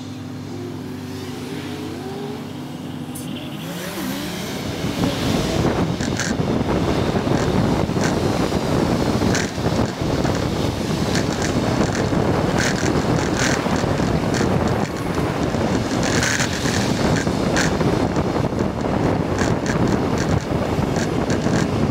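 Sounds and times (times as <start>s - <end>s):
road and traffic rumble: 0.0s - 21.9s
wind buffeting microphone: 4.1s - 21.9s.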